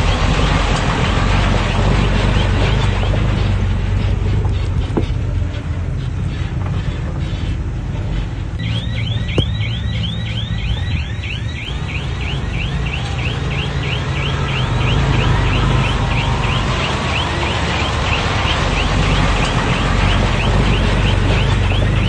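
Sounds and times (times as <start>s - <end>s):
bulldozer diesel engine running: 0.0s - 22.0s
rhythmic high squeaking: 0.0s - 22.0s.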